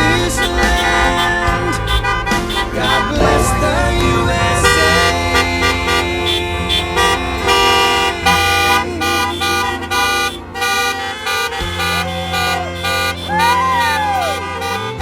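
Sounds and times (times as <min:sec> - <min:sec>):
car horns honking: 0:00.0 - 0:15.0
low steady rumble: 0:00.3 - 0:13.3.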